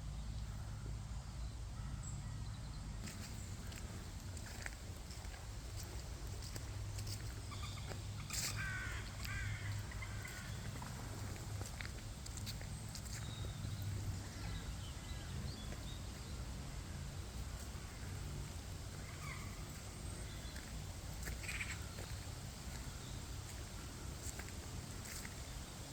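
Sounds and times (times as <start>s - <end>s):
bird calls: 1.8s - 16.4s, 17.4s - 25.8s.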